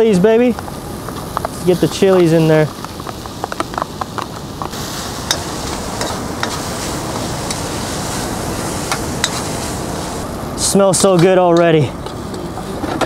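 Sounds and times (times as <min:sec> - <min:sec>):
chilies sizzling in a wok: 0:00.0 - 0:10.8.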